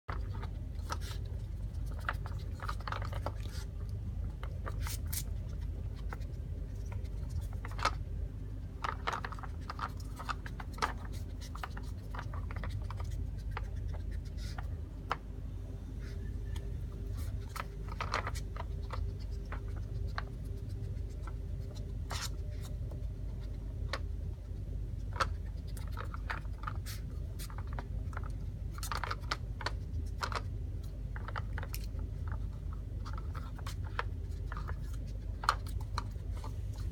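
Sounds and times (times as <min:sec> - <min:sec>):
treats rattling: 0:00.1 - 0:15.1, 0:16.6 - 0:36.9
steady low hum: 0:00.1 - 0:36.9.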